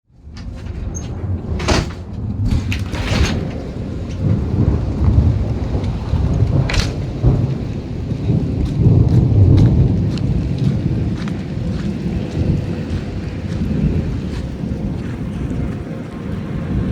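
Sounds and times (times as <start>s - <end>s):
low thunder rumble: 0.1s - 16.9s
rain falling: 0.4s - 16.9s
sharp thunder cracks: 0.6s - 16.9s.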